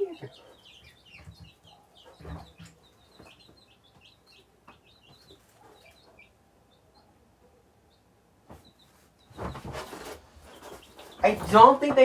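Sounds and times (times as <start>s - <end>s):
baby chicks and ducklings peeping: 0.0s - 12.0s.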